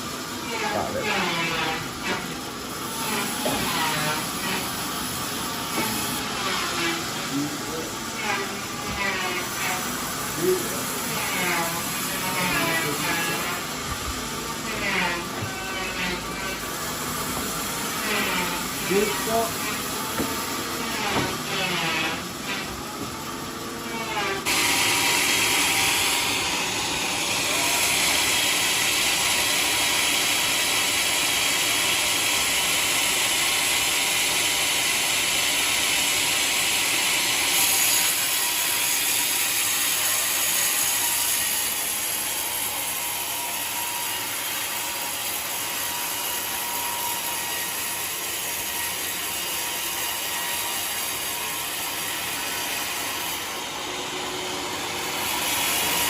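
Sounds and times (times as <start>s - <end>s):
saw blade cutting log: 0.3s - 53.7s, 54.3s - 56.0s.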